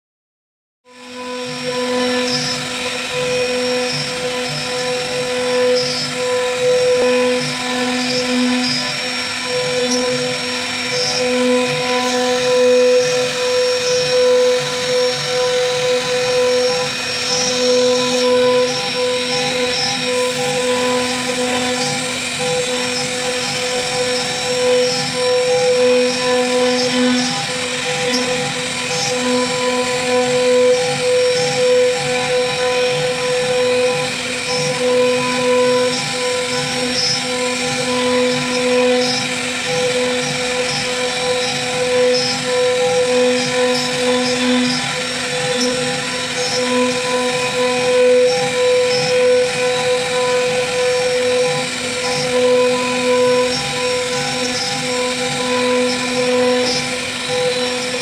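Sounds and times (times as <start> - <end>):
router spindle whining: 0.9 - 58.0
bit carving wood: 1.0 - 58.0.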